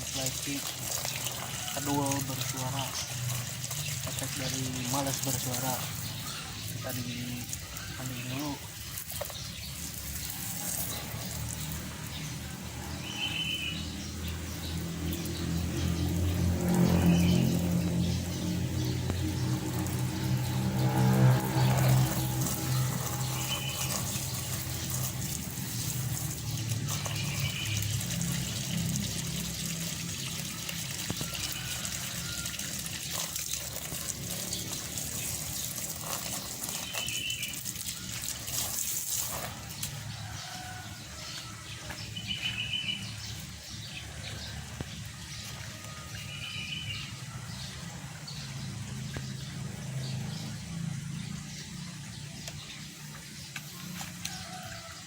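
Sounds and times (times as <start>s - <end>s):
water hissing and splashing: 0.0s - 55.0s
bird chirping: 0.2s - 30.3s, 33.4s - 55.0s.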